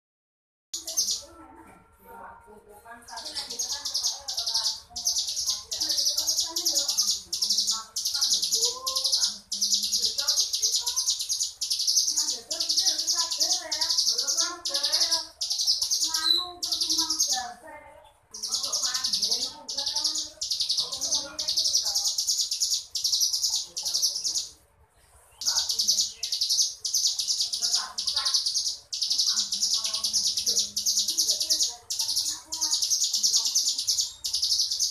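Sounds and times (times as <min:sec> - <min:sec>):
bird singing buzzing trills: 0:03.1 - 0:17.6, 0:18.3 - 0:24.5, 0:25.4 - 0:34.9.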